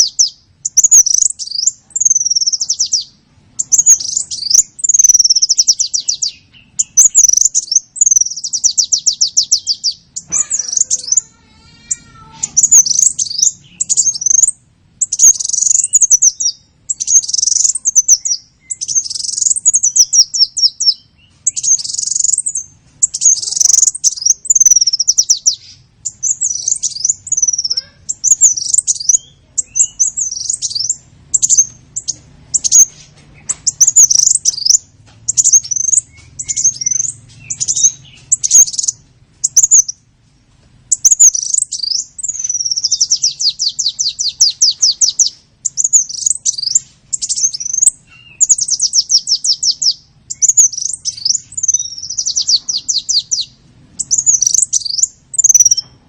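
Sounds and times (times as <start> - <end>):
high-pitched bird chirps and trills: 0.0 - 40.1, 40.9 - 56.0.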